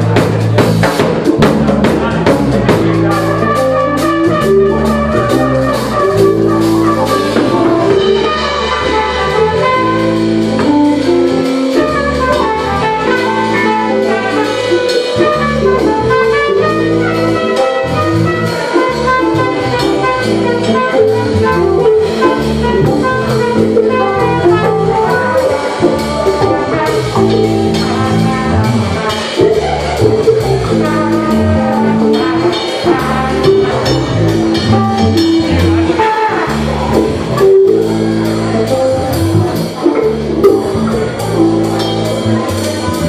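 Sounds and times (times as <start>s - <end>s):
bass line: 0.0s - 43.0s
drum kit beat: 0.0s - 43.0s
melodic lead line: 0.0s - 43.0s.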